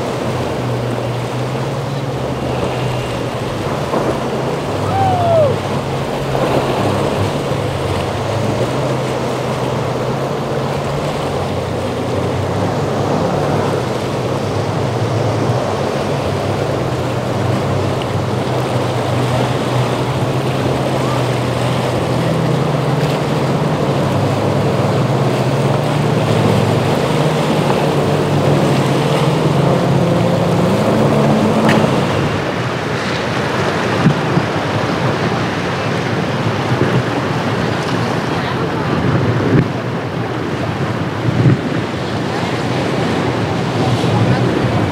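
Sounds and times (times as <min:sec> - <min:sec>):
motorboat engines running: 0:00.0 - 0:44.9
surf rushing: 0:00.0 - 0:44.9
wind on microphone: 0:00.0 - 0:44.9.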